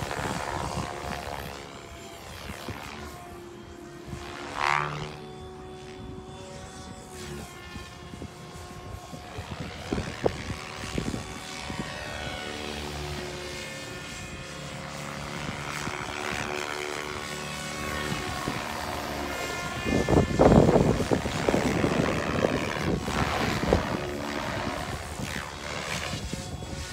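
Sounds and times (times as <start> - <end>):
rc helicopter whining: 0.0 - 26.9
wind rumbling on microphone: 0.0 - 26.9.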